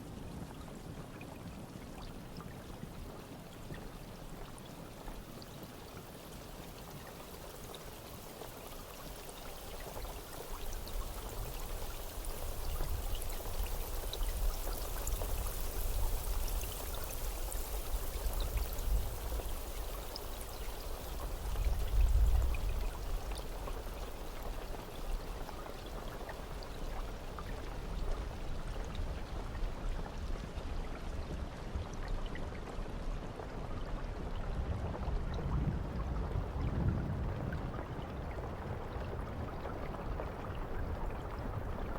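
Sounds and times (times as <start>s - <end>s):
steady rain falling: 2.2s - 41.9s.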